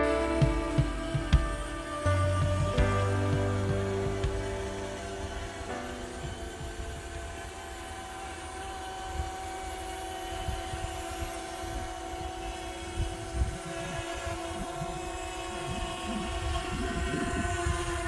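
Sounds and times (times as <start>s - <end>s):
drone propellers whining: 0.0s - 18.0s
wind on microphone: 0.0s - 18.0s.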